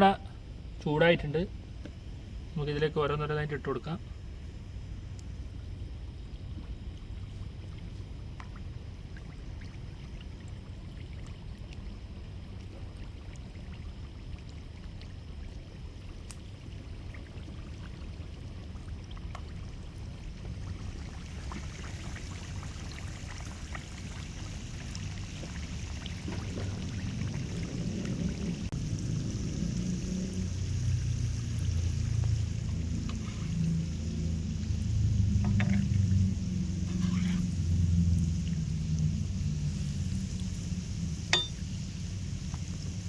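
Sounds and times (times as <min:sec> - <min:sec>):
dough deep-frying in oil: 0:03.5 - 0:43.0.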